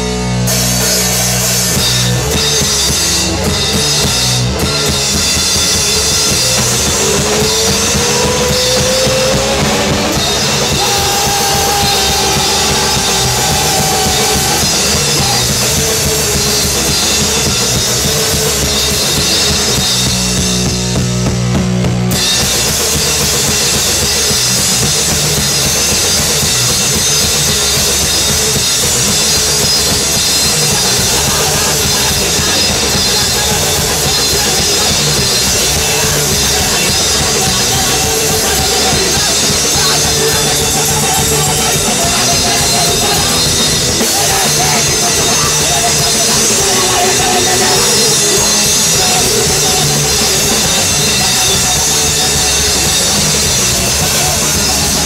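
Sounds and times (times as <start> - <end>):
drum kit with cymbals: 0.0 - 55.0
rock band playing loudly: 0.0 - 55.0.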